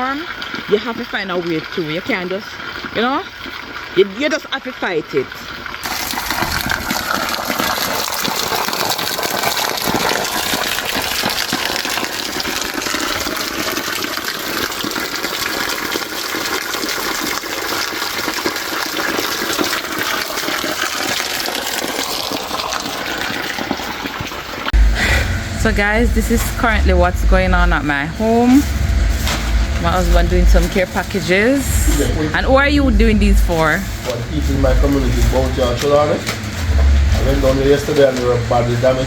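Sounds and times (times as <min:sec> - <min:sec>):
water running and splashing: 0:00.0 - 0:39.0.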